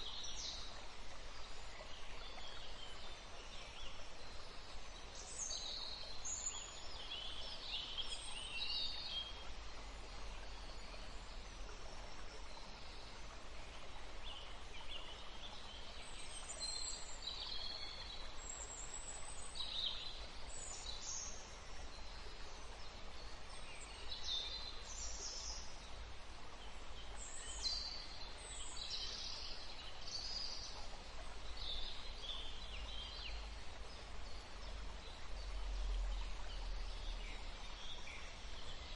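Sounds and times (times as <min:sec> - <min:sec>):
faint background hiss: 0:00.0 - 0:38.9
songbirds chirping: 0:00.0 - 0:38.9.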